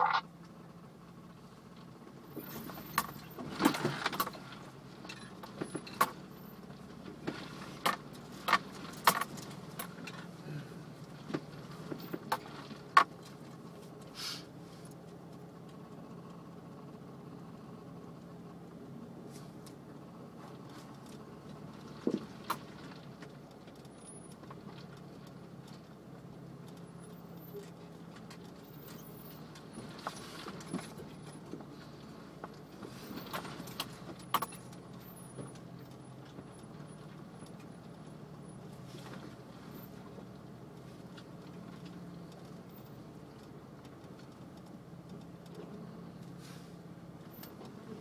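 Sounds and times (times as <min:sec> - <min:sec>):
clicks and rattles inside vehicle: 0:00.0 - 0:48.0
engine running low: 0:00.0 - 0:48.0.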